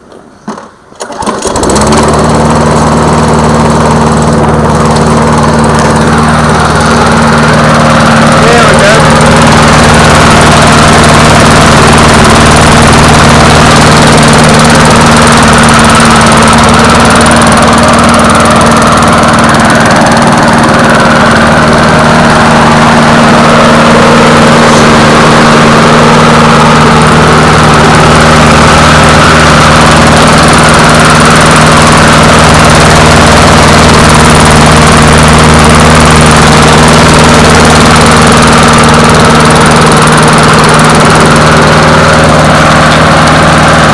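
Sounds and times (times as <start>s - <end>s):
lawn mower engine running: 0.4s - 43.9s.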